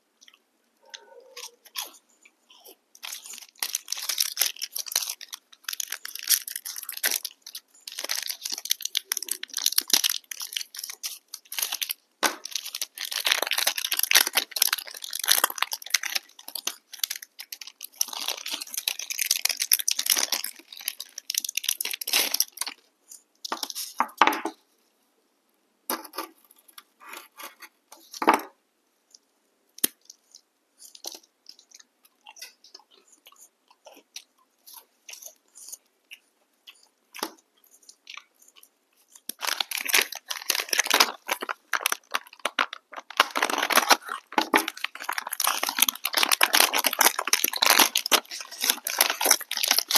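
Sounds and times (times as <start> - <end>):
crunching and chewing snacks: 0.2 - 24.2, 29.8 - 49.9.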